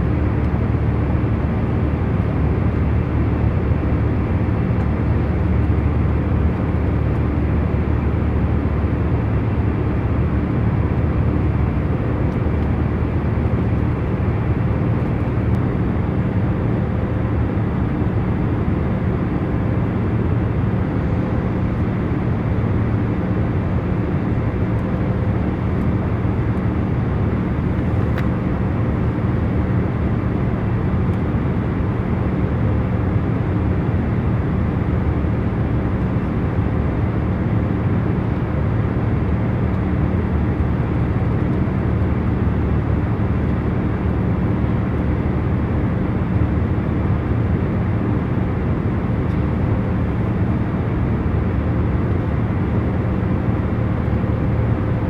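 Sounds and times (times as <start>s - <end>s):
constant hum: 0.0s - 55.0s
low rumble of engine and air: 0.0s - 55.0s.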